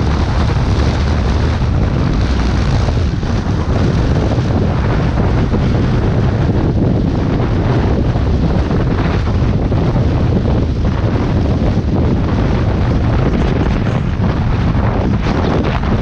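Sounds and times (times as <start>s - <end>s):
wind roaring over microphone: 0.0s - 16.0s.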